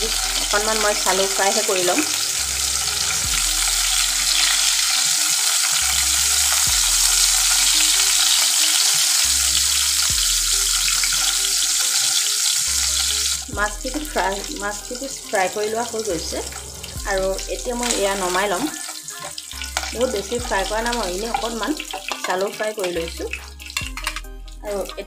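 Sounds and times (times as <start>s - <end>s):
spatula turning fish in pan: 0.0s - 16.6s, 17.2s - 25.0s
fish sizzling in hot oil: 0.0s - 25.0s.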